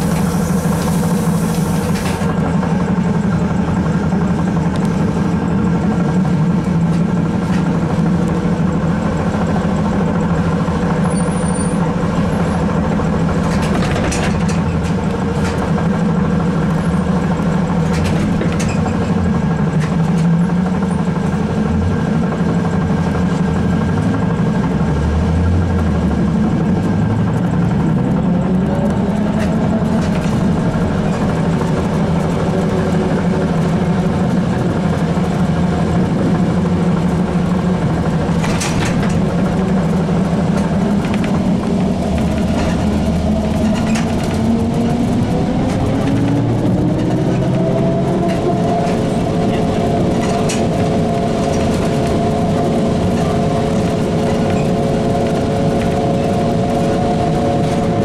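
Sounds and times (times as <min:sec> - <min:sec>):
road and tyre noise: 0:00.0 - 0:58.0
trolleybus motor hum: 0:00.0 - 0:58.0.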